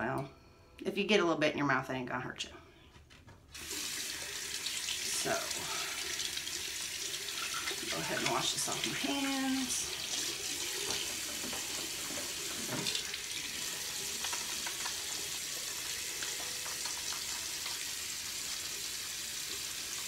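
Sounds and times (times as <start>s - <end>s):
tap water running into sink: 3.5s - 20.0s.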